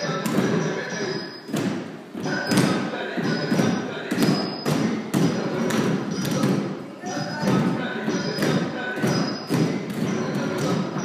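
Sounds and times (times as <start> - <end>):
recorded dance music with voice: 0.0 - 1.4, 2.2 - 11.0.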